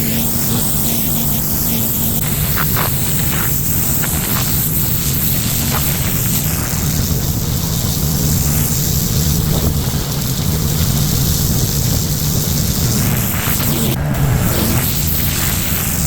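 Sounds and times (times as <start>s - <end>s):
pressure washer engine drone: 0.0s - 16.0s
water spray hissing: 0.0s - 16.0s.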